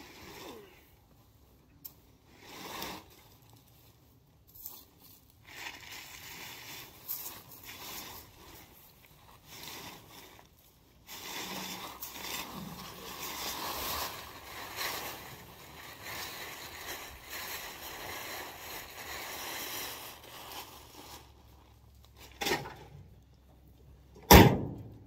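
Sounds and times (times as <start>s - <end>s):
plastic tarp rustling and scraping: 0.0s - 0.9s, 2.3s - 22.8s.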